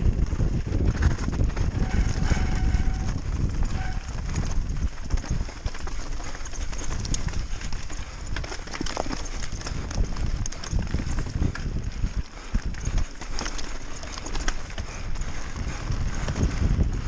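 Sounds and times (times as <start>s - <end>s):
bike rattling over stones: 0.0s - 17.0s.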